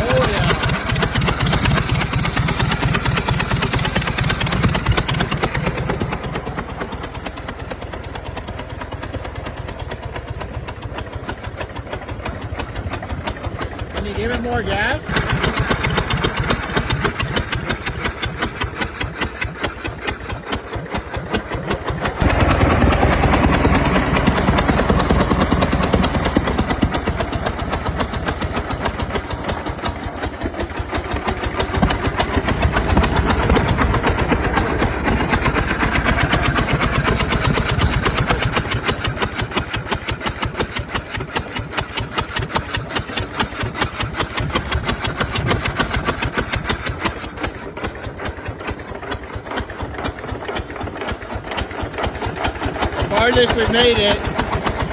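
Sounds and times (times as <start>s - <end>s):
tractor engine pulsing: 0.0s - 54.9s.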